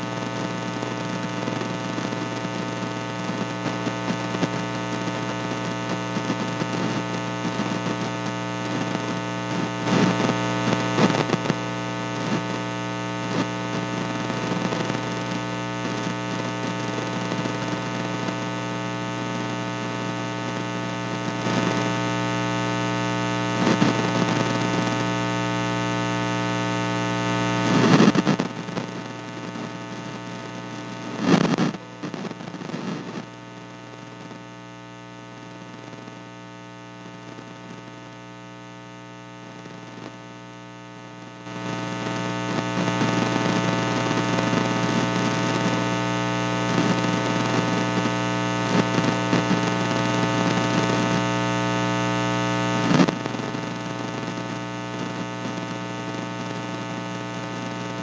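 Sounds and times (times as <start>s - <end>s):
loud electrical crackles: 0.0s - 58.0s.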